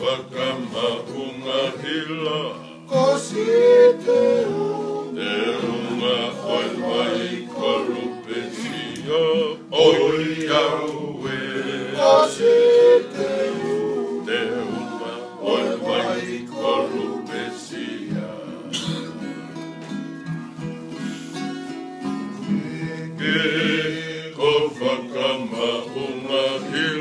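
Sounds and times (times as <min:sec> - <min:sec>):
men singing together: 0:00.0 - 0:19.5, 0:22.4 - 0:27.0
strummed acoustic guitars: 0:00.0 - 0:27.0.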